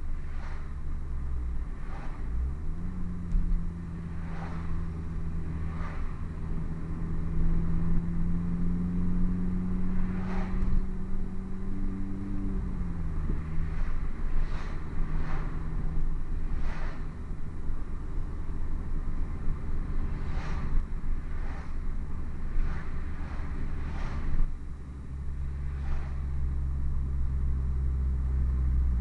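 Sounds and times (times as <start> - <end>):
car engine cruising: 0.0 - 29.0.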